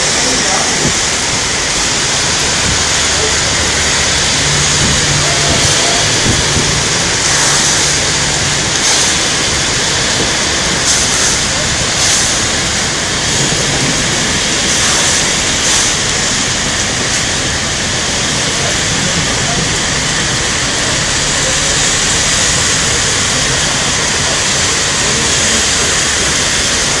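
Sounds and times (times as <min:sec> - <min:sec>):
heavy rain on pavement: 0:00.0 - 0:27.0.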